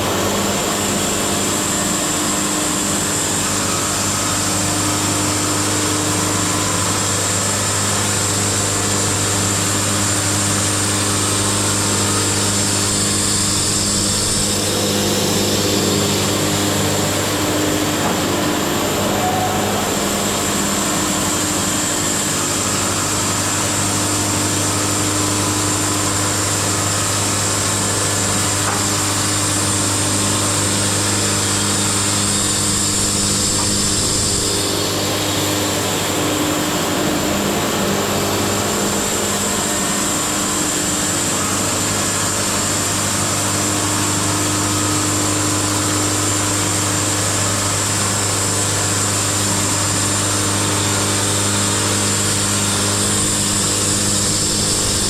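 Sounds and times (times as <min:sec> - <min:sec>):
band sawmill sawing a log: 0:00.0 - 0:55.0.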